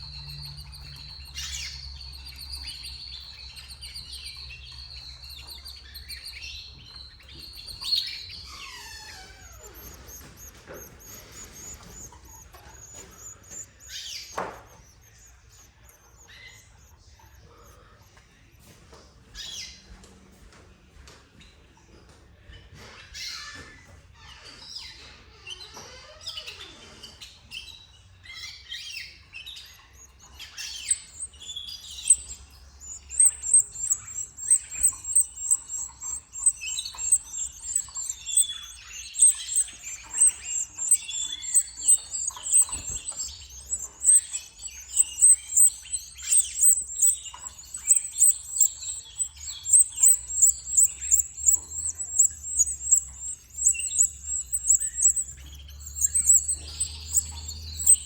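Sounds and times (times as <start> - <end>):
canary nestlings cheeping: 0.0 - 18.7, 23.0 - 58.0.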